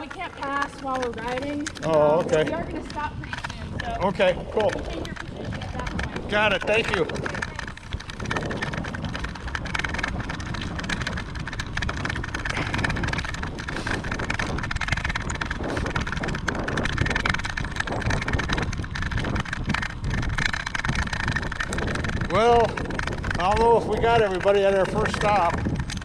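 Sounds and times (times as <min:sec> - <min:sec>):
vehicle road noise: 0:00.0 - 0:26.0
wind rushing over microphone: 0:00.0 - 0:26.0.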